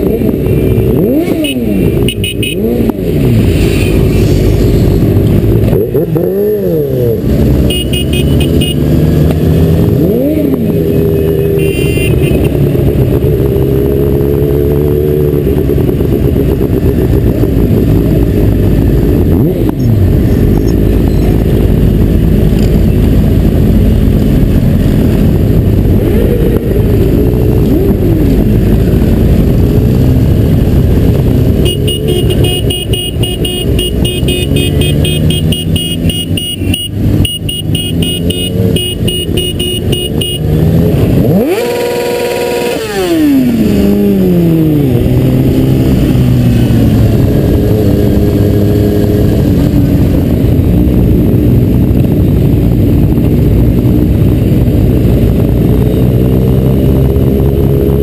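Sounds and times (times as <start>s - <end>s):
motorcycle engines revving: 0.0s - 58.0s
wind and road noise: 0.0s - 58.0s.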